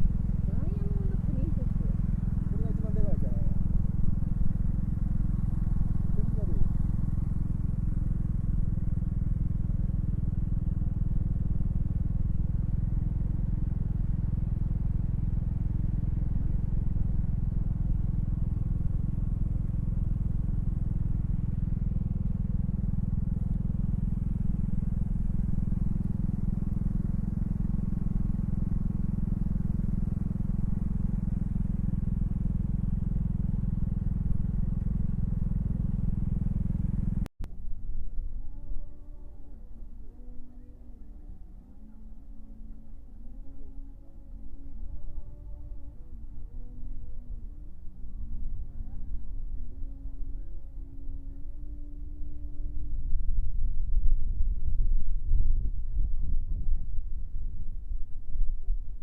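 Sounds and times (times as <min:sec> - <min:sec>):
scooter engine running: 0:00.0 - 0:37.3, 0:38.3 - 0:56.8.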